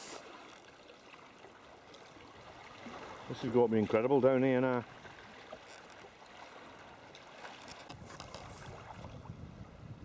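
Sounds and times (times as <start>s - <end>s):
small water splashes and drips: 0.0s - 4.0s, 4.6s - 9.4s.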